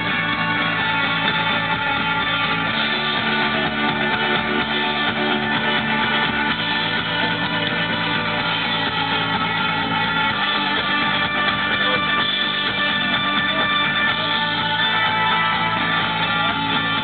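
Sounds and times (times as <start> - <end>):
rock band playing live: 0.0 - 17.0
strummed electric guitars: 0.0 - 17.0.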